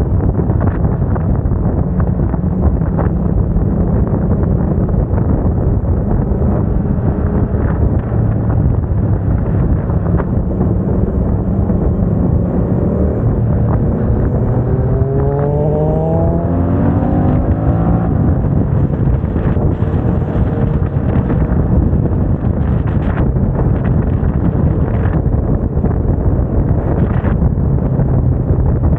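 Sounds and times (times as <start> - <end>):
motorcycle engine accelerating: 0.0 - 28.9
wind noise on microphone: 0.0 - 28.9.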